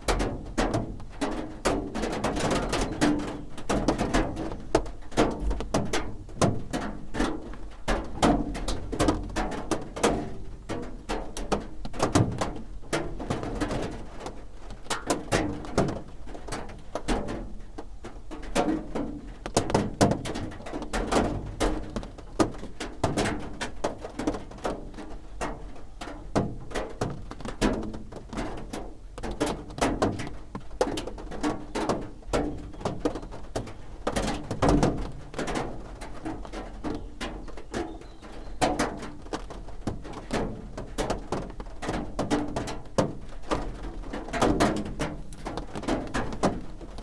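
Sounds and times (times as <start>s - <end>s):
raindrops pattering on a roof: 0.0s - 47.0s.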